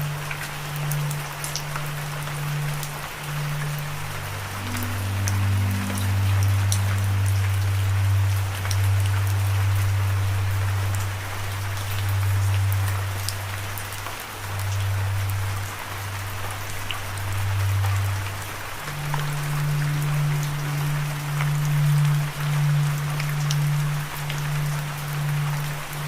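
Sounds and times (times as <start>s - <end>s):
low musical drone: 0.0s - 26.0s
raindrops ticking: 0.0s - 26.0s
steady rain: 0.0s - 26.0s.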